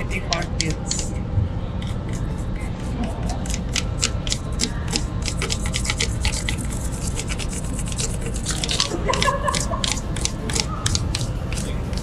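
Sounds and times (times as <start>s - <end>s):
drawing tool scratching paper: 0.0s - 1.1s, 1.8s - 12.0s.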